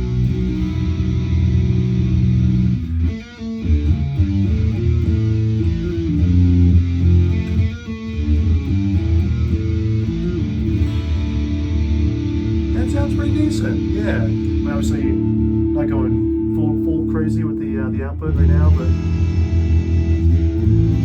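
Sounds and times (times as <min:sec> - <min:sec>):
electric guitar riff: 0:00.0 - 0:21.0.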